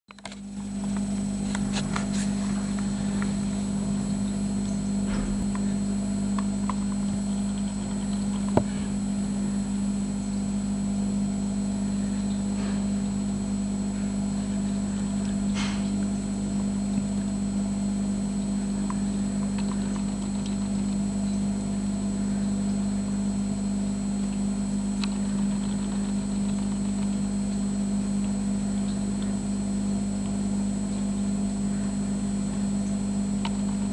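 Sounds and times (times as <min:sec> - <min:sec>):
aquarium pump humming: 0:00.1 - 0:33.9.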